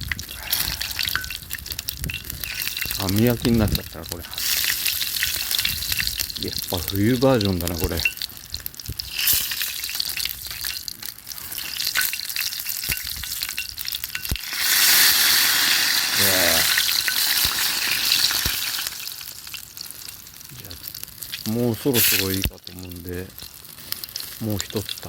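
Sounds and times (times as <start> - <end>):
meat sizzling on grill: 0.0 - 25.0.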